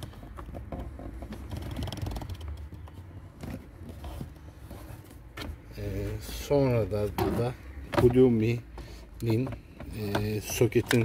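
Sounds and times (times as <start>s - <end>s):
plastic scraping on plastic: 0.0s - 11.0s.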